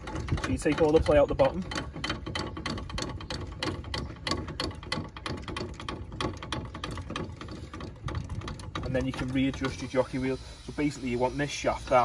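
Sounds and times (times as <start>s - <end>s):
crank mechanism clicking and rattling: 0.0s - 12.0s.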